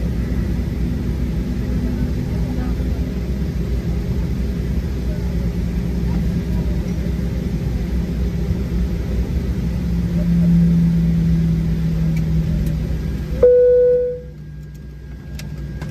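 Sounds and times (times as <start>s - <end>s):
airplane cabin engine noise: 0.0s - 15.9s.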